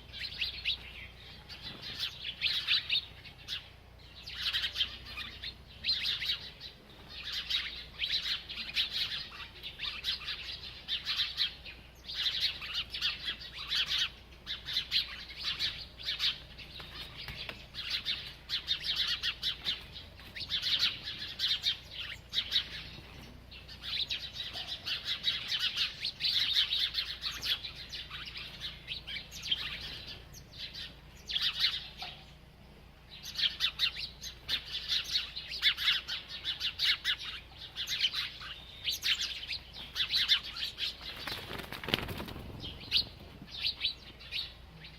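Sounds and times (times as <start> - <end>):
small bird chirping: 0.0 - 44.9.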